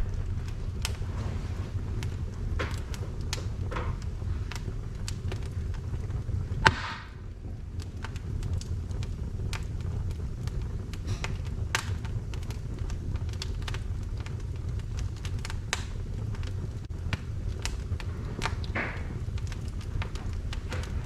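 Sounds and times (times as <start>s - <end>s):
firewood crackling and popping: 0.0s - 21.0s
low fire rumble: 0.0s - 21.0s.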